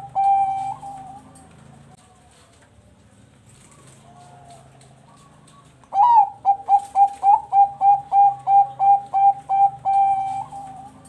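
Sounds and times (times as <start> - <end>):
dove cooing: 0.0 - 2.0, 3.6 - 11.0.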